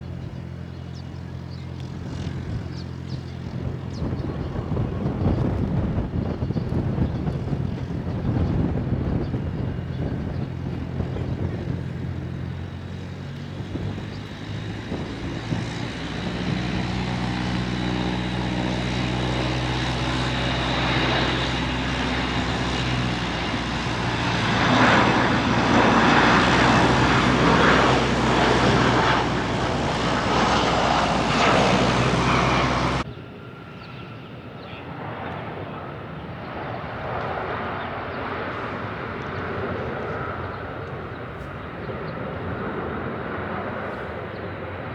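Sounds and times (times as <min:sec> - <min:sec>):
airplane engines humming: 0:00.0 - 0:44.9
faint aircraft noise: 0:00.0 - 0:44.9.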